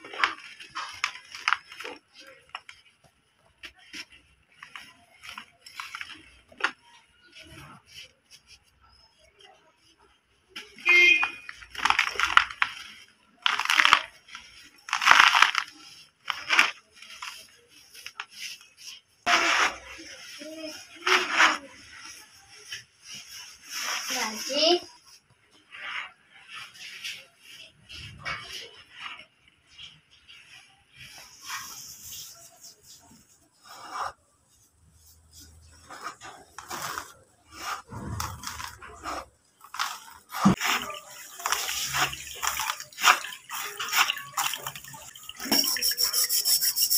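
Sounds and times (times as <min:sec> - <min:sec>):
hands crushing dry dirt: 0:00.0 - 0:09.2, 0:10.6 - 0:24.0, 0:25.7 - 0:46.9
powder crumbling: 0:00.0 - 0:09.2, 0:10.6 - 0:24.0, 0:28.8 - 0:46.2.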